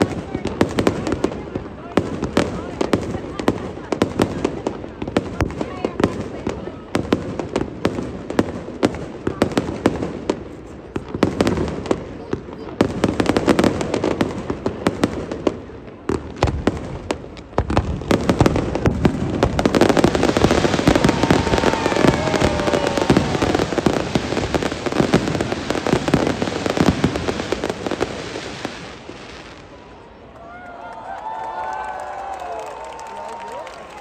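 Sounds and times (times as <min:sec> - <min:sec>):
fireworks bangs and crackles: 0:00.0 - 0:30.1.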